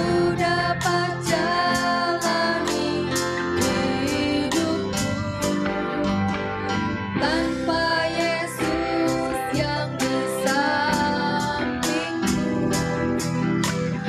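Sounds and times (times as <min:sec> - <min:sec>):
woman singing into microphone: 0:00.0 - 0:06.5, 0:07.2 - 0:13.2
drums: 0:00.0 - 0:14.0
electric bass: 0:00.0 - 0:14.0
electric guitar: 0:00.0 - 0:14.0
keyboard: 0:00.0 - 0:14.0.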